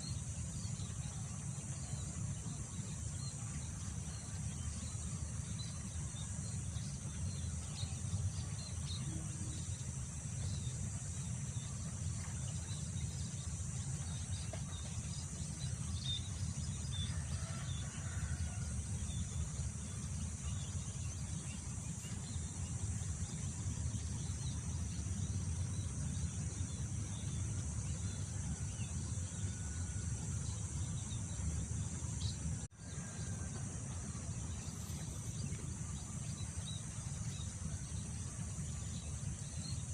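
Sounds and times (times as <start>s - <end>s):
high drone of insects: 0.0s - 39.9s.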